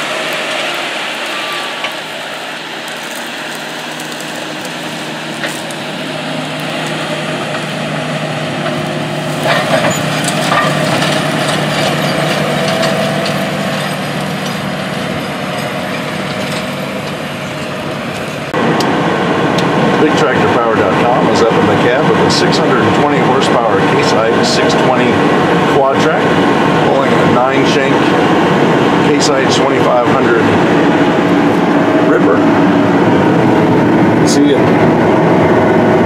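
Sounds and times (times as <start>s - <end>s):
tractor engine under load: 0.0s - 36.0s.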